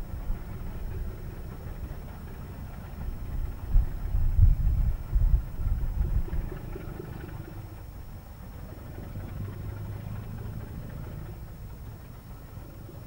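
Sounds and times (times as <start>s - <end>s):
distant diesel locomotive drone: 0.0s - 13.0s.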